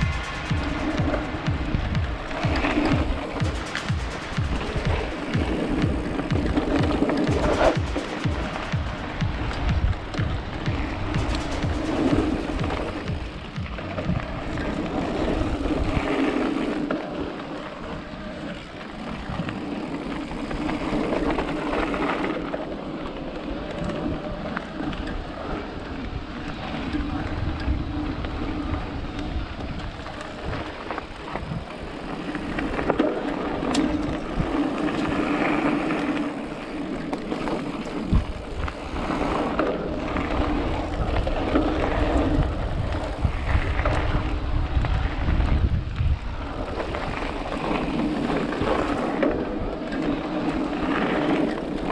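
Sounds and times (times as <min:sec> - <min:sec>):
tyres rumbling over gravel: 0:00.0 - 0:51.9
wind buffeting microphone: 0:00.0 - 0:51.9.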